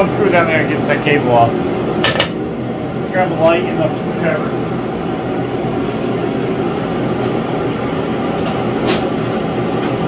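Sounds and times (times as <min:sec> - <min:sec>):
propane heater running: 0:00.0 - 0:10.0.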